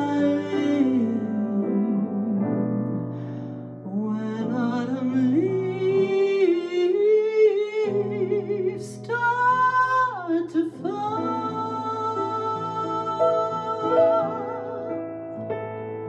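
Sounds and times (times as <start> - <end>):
woman singing jazz ballad: 0.0 - 15.2
grand piano: 0.0 - 16.0.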